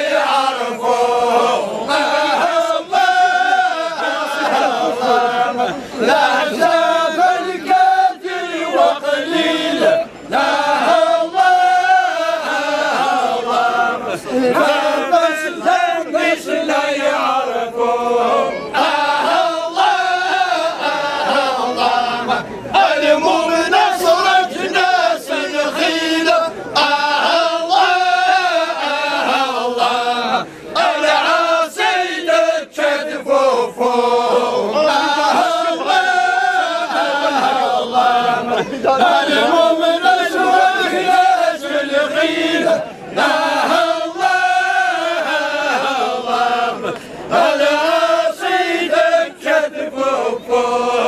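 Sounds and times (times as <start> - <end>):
men chanting in unison: 0.0 - 51.0.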